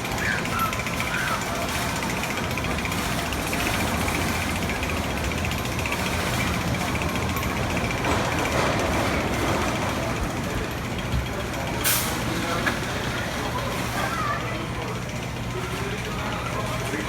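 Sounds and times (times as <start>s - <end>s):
roller coaster rumble and rattle: 0.0s - 17.0s.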